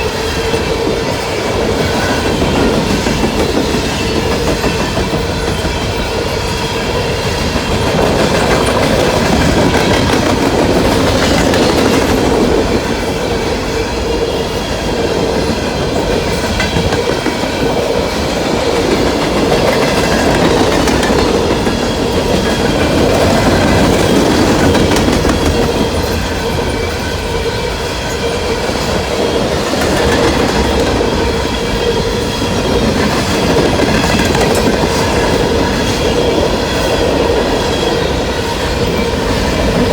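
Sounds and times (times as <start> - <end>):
freight train rumbling past: 0.0 - 39.9
wheels clacking over rail joints: 0.2 - 39.9.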